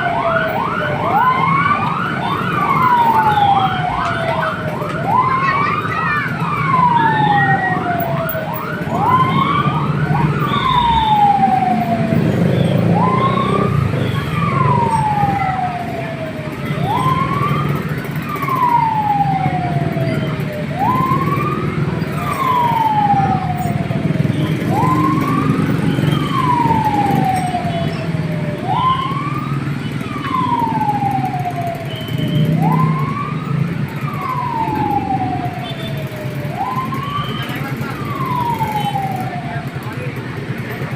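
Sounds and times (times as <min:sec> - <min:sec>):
fire truck siren wailing: 0:00.0 - 0:40.9.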